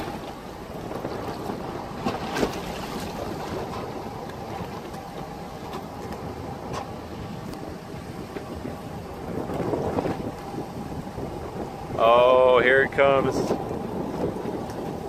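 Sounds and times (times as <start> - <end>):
water lapping against hull: 0.0 - 15.0
wind buffeting microphone: 0.0 - 15.0.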